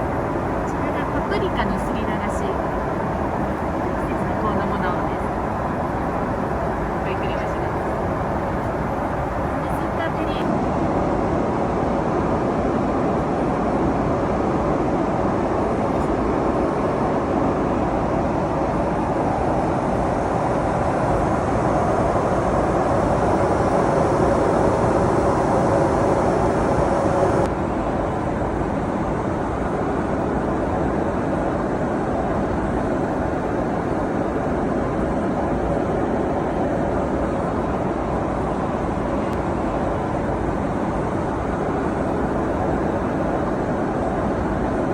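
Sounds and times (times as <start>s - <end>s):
airliner cabin noise in flight: 0.0s - 44.9s.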